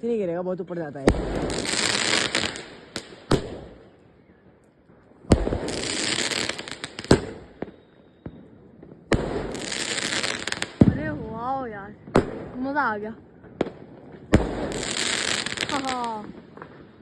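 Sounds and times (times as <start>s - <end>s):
crackling firework pops: 1.0s - 4.0s, 4.6s - 17.0s
firework bangs: 1.0s - 4.0s, 5.2s - 17.0s.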